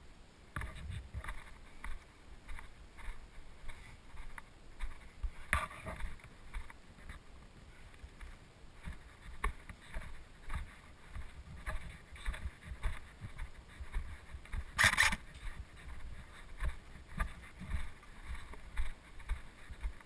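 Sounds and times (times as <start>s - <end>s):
soft rustling footsteps: 0.0s - 20.0s.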